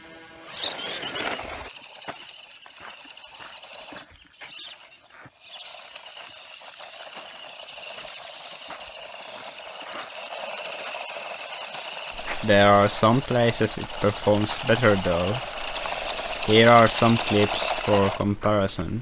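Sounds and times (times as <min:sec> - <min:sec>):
toy car electric motor whining: 0:00.0 - 0:18.5
tyres crunching on grit: 0:00.1 - 0:19.0.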